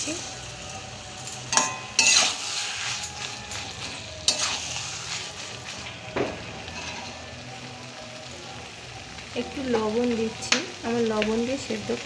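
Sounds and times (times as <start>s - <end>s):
curry sizzling and bubbling: 0.0s - 12.0s.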